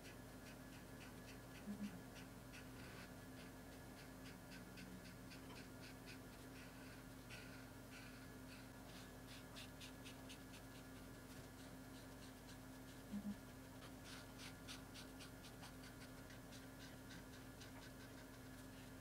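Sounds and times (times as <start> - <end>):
low steady hum: 0.0 - 19.0
brush pen scratching on paper: 2.2 - 19.0.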